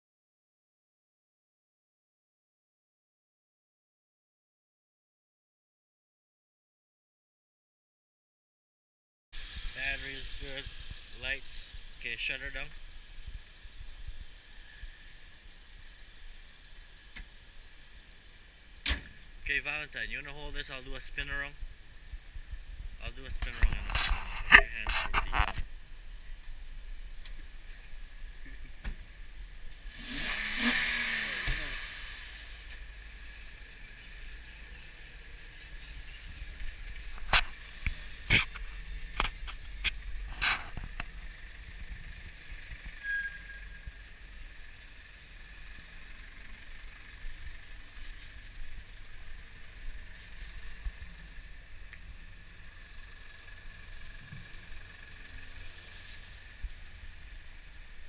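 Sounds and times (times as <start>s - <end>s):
pickup engine starting and running: 9.4s - 58.0s.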